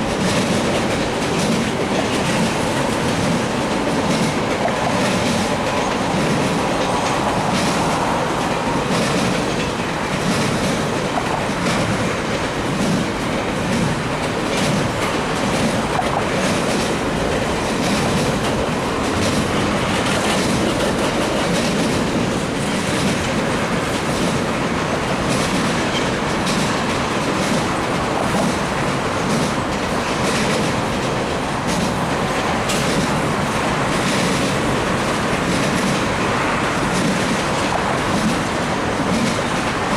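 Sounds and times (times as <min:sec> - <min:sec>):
freight train rolling past: 0:00.0 - 0:39.9
wheels clicking over rail joints: 0:00.0 - 0:39.9.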